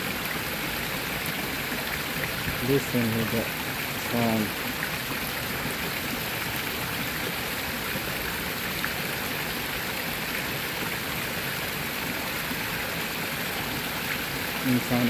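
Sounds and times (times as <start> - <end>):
waterfall splashing into pond: 0.0 - 15.0.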